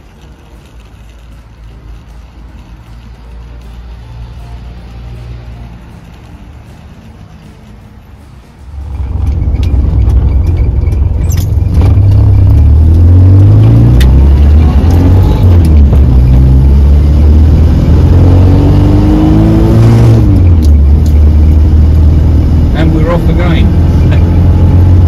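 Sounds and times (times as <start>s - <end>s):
car engine accelerating: 2.6s - 25.0s.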